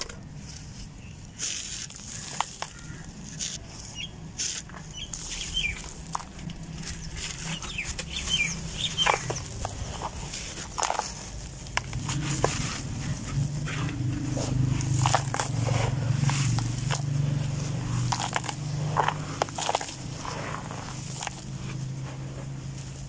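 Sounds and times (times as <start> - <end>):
gritty sand crunching under hands: 0.0 - 23.0.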